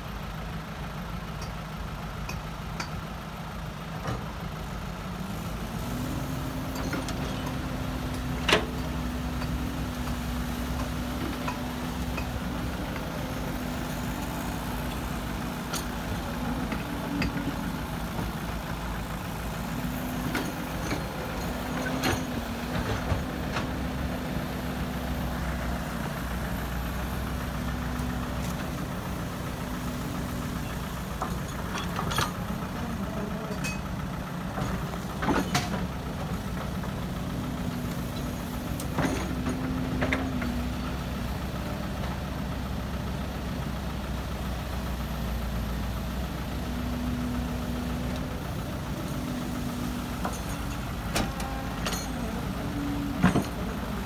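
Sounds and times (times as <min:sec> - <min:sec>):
excavator engine drone: 0:00.0 - 0:54.0
hydraulics working: 0:04.0 - 0:54.0.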